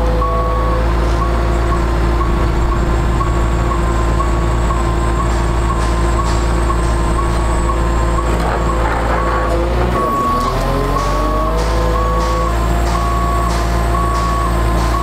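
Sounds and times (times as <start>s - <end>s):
diesel engine running: 0.0s - 15.0s
warning beeper: 0.1s - 15.0s.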